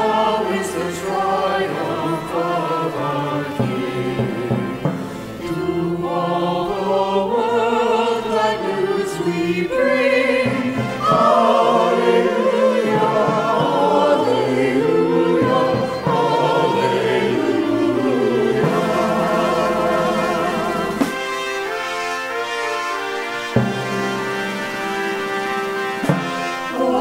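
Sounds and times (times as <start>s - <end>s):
church choir singing a hymn: 0.0s - 27.0s.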